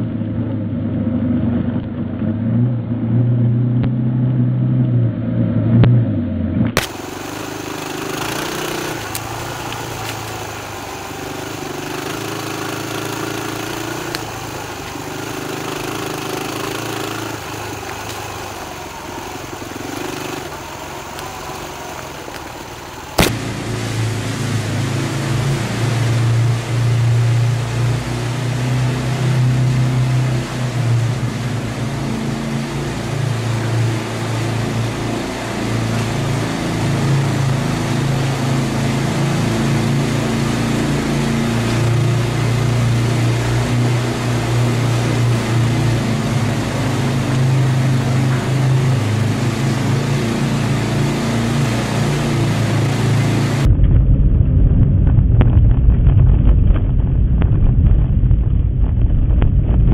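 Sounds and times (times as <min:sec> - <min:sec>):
rumble of rough ground: 0:00.0 - 0:59.9
vehicle engine droning: 0:00.0 - 0:59.9.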